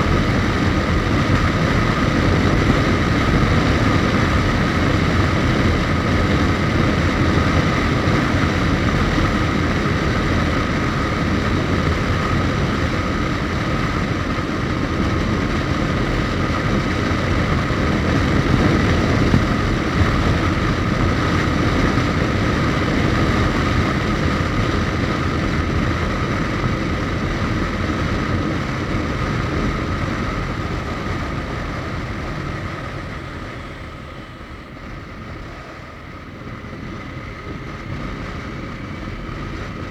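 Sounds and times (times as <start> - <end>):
motorcycle engine whine: 0.0 - 39.9
wind and road noise: 0.0 - 39.9.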